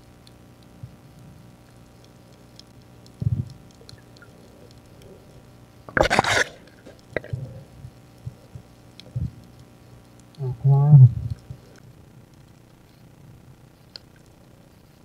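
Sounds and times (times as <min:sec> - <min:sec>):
faint underwater clicks: 0:00.0 - 0:10.5, 0:11.2 - 0:15.0.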